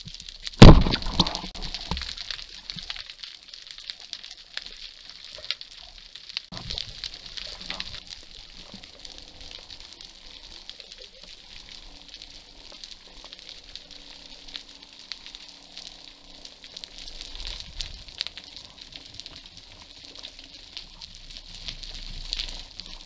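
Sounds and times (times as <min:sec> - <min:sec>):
underwater crackle of clicks: 0:00.0 - 0:23.0.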